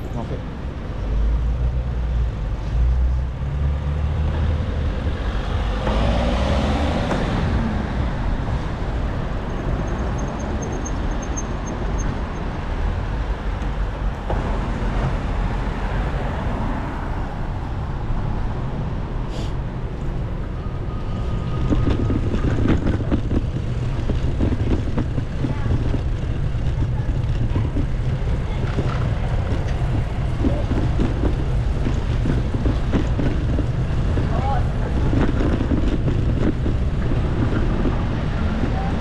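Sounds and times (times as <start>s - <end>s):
passing vehicle engine: 0.0s - 39.0s
street traffic: 0.0s - 39.0s
wind rumble on microphone: 0.0s - 39.0s.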